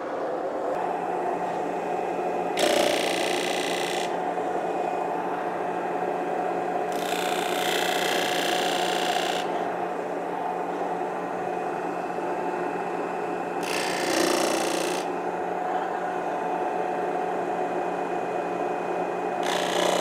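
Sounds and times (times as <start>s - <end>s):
dust collector running: 0.0s - 20.0s
disc sander humming: 0.7s - 20.0s.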